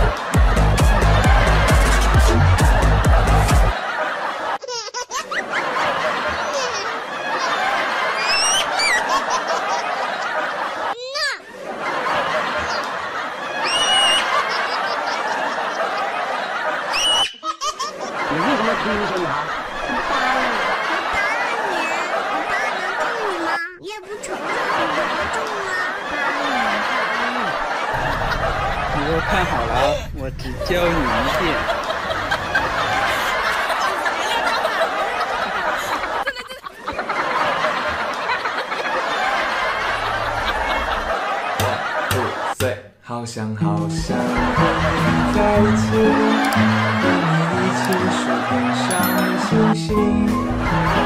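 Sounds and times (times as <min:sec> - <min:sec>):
people chuckling: 0:00.0 - 0:42.7, 0:44.1 - 0:51.0
crowd laughing: 0:00.0 - 0:42.8, 0:43.8 - 0:51.0.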